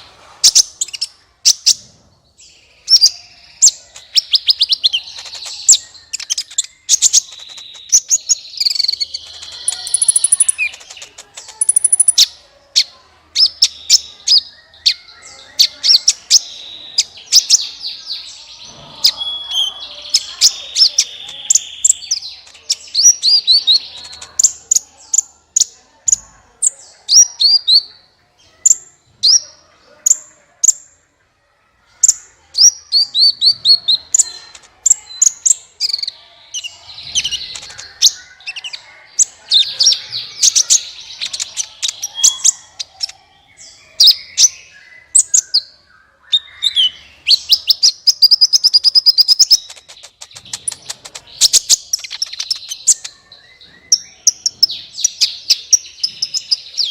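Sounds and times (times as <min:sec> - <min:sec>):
sunbird chirping and trilling: 0:00.0 - 0:30.8, 0:32.0 - 0:56.9.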